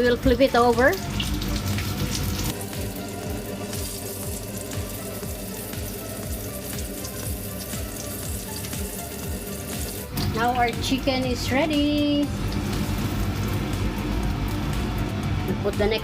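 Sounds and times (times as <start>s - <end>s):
soft background music: 0.0s - 16.0s
chicken sizzling in frying pan: 0.3s - 10.4s, 12.1s - 15.5s.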